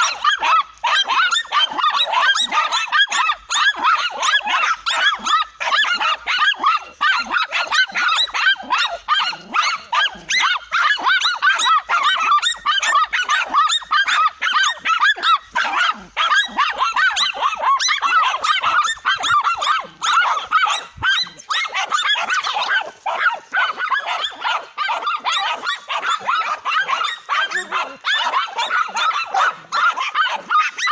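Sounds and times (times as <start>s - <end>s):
small dogs barking and yelping: 0.0s - 30.9s.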